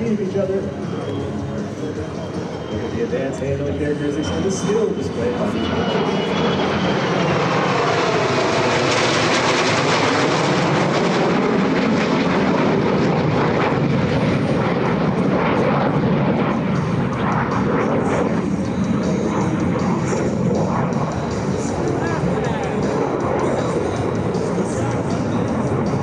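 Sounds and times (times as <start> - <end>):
fighter jets roaring past: 0.0 - 26.0.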